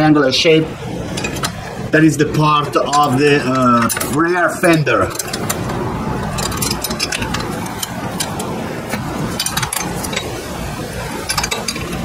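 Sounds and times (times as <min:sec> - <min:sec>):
low background rumble: 0:00.0 - 0:12.0
metal bolts clicking and clinking: 0:01.0 - 0:01.8, 0:02.6 - 0:12.0.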